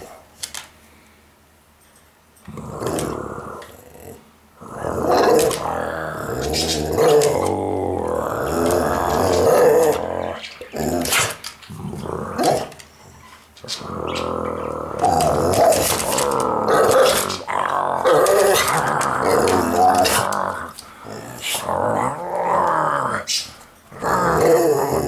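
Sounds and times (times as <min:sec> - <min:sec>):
puppy growling: 0:02.4 - 0:25.0.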